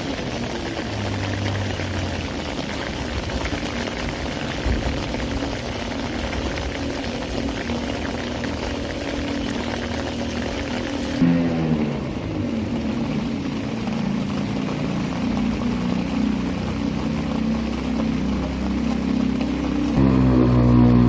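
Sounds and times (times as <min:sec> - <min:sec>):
rain hissing: 0:00.0 - 0:21.0
running water: 0:00.0 - 0:21.0.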